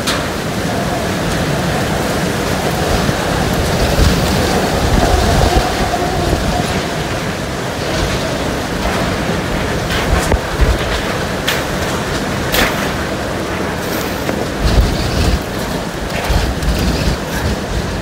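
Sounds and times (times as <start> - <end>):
strong wind rushing: 0.0 - 18.0.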